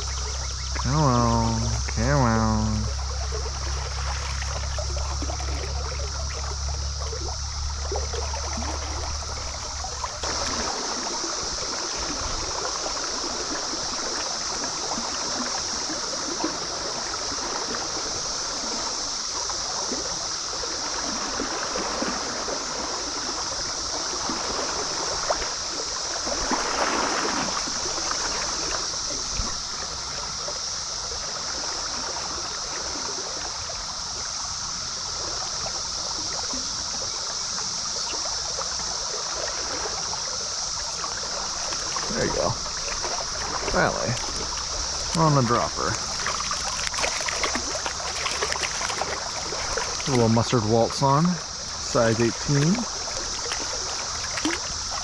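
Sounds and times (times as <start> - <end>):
high-pitched hiss: 0.0 - 55.0
stream running over rocks: 0.0 - 55.0.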